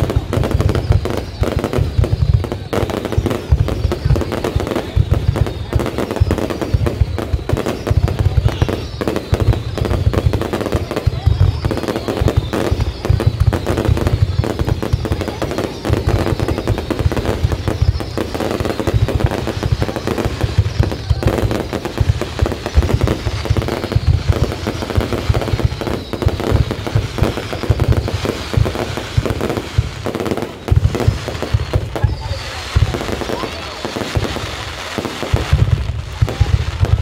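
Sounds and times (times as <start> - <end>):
fireworks crackling: 0.0 - 37.0
fireworks launching and bursting: 0.0 - 37.0.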